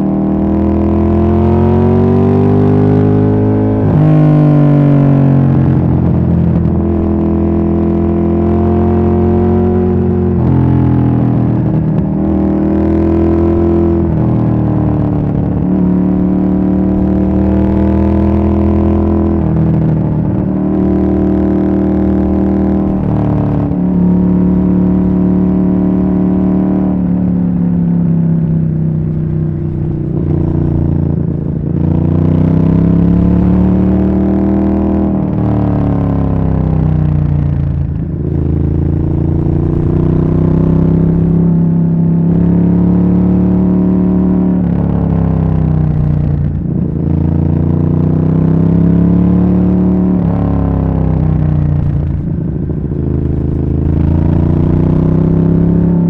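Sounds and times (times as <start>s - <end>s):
motorcycle exhaust revving: 0.0s - 56.0s.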